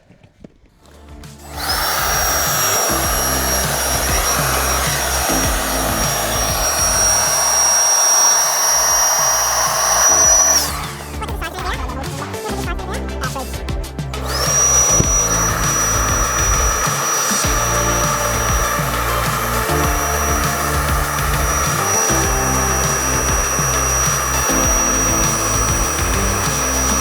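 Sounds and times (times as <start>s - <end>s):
background music: 0.8s - 27.0s
cordless blower whining: 1.3s - 12.5s, 14.2s - 27.0s.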